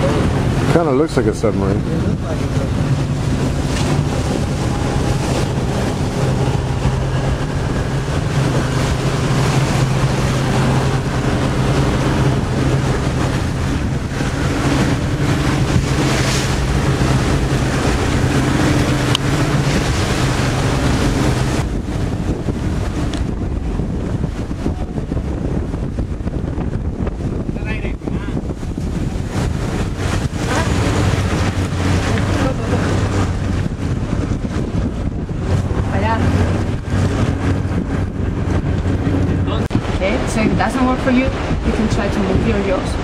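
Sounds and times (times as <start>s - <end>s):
motorboat engine drone: 0.0s - 43.0s
water rushing past hull: 0.0s - 43.0s
wind buffeting microphone: 0.0s - 43.0s.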